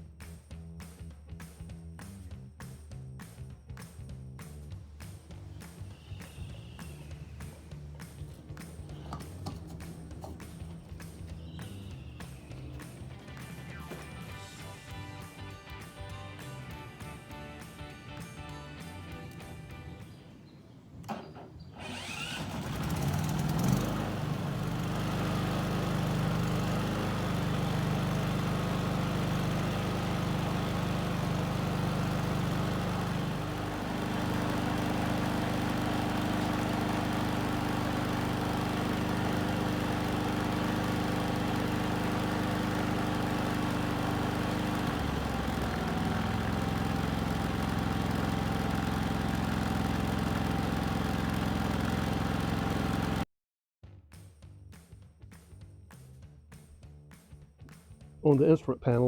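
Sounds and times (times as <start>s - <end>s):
generator engine running: 4.9s - 53.2s.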